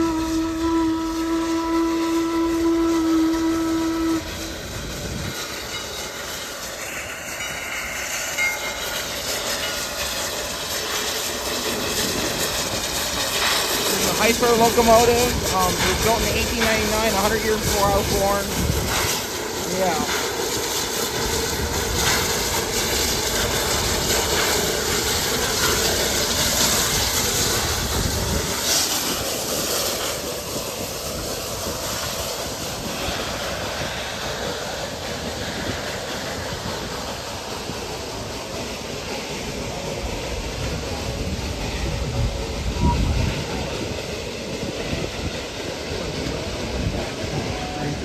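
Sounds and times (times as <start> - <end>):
railway cars rolling on rails: 0.0 - 48.0
steam locomotive hissing steam: 0.0 - 48.0.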